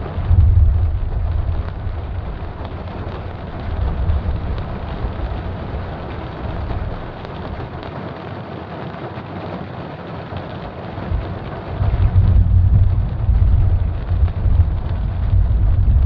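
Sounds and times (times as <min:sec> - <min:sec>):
thunder rumble: 0:00.0 - 0:07.9, 0:11.0 - 0:16.0
steady rain: 0:00.0 - 0:16.0.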